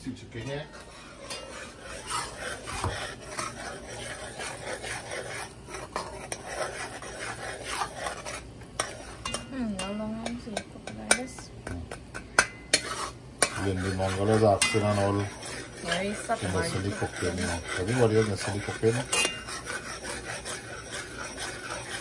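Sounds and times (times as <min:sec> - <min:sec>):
oil sizzling: 0:00.0 - 0:11.0, 0:11.6 - 0:22.0
spoon stirring and scraping pan: 0:00.0 - 0:22.0.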